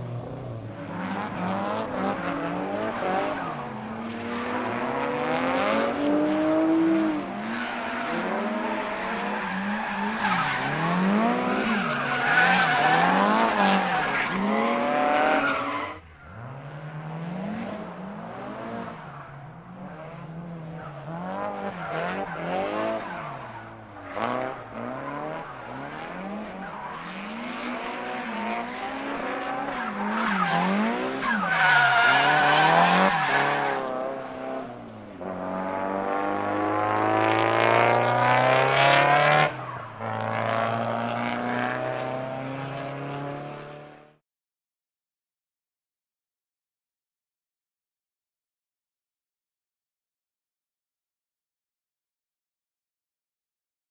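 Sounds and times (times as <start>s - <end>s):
car engine revving: 0.0s - 44.1s.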